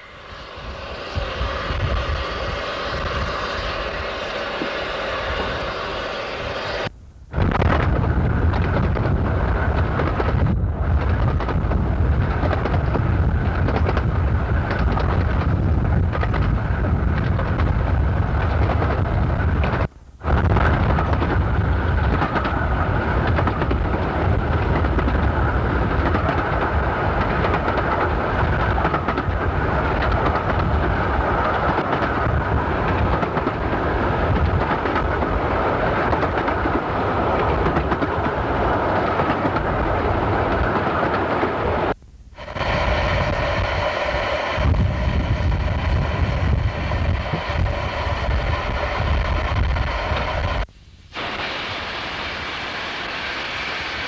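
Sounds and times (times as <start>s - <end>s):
train carriages rumbling on track: 7.5s - 51.8s.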